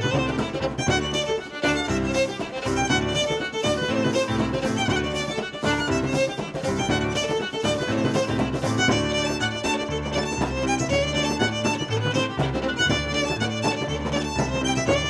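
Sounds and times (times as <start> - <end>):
fiddle music: 0.0 - 15.0.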